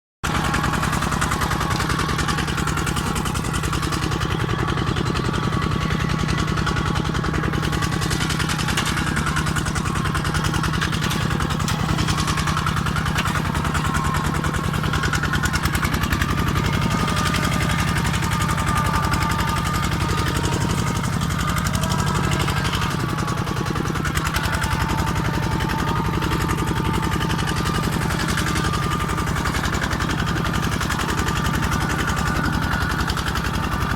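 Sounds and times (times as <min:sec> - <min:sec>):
tractor diesel engine chugging: 0:00.2 - 0:33.9.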